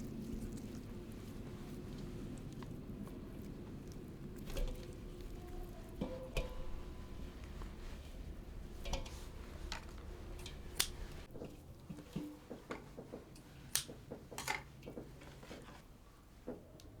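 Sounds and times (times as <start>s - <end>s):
light clicks and soft knocks: 0.2s - 17.0s.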